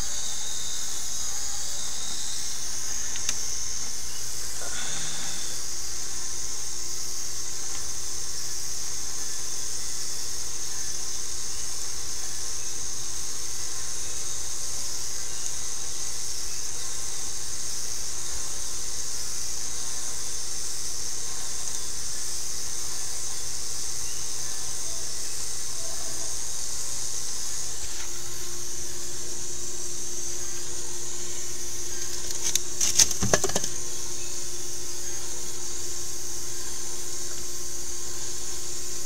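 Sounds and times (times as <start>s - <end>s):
machine hiss and hum: 0.0s - 39.0s.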